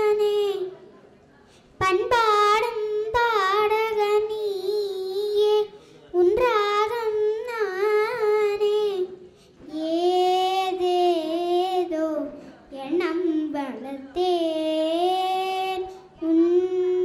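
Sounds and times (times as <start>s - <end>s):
girl singing unaccompanied: 0.0s - 0.9s, 1.8s - 17.0s.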